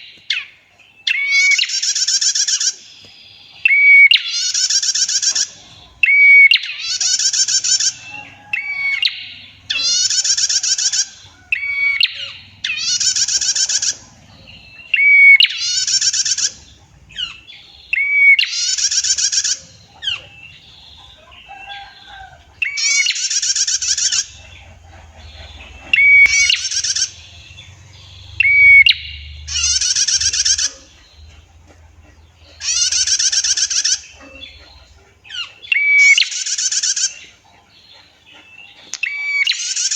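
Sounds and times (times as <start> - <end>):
bird calling with rapid trill: 0.0 - 39.9.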